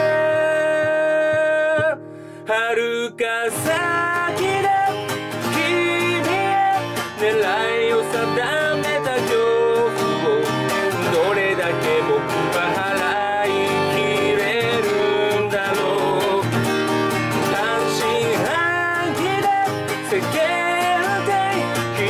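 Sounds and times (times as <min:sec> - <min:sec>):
acoustic guitar strumming: 0:00.0 - 0:22.0
person singing: 0:00.0 - 0:22.0.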